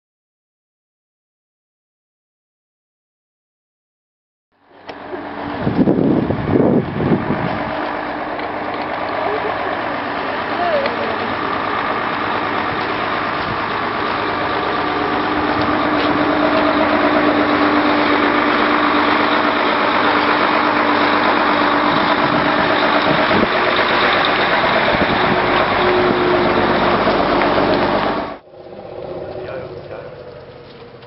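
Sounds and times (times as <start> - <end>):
engine running steadily: 4.6 - 31.0.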